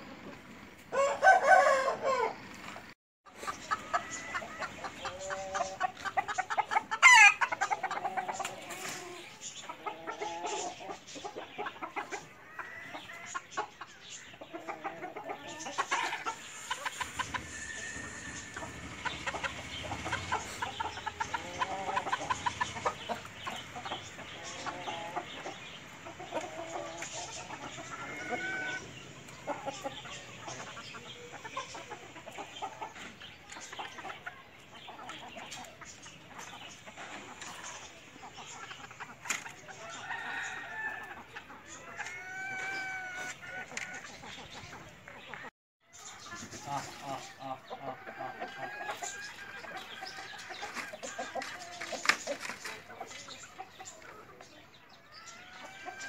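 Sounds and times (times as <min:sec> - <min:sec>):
chickens clucking and calling: 0:00.0 - 0:56.0.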